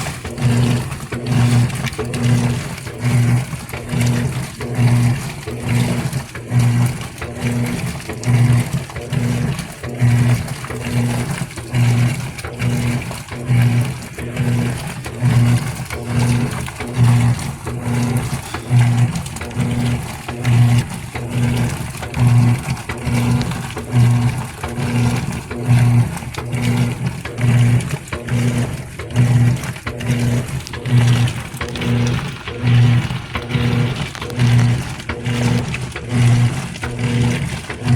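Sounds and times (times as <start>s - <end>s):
washer motor humming: 0.0s - 37.9s
water swishing: 0.0s - 37.9s.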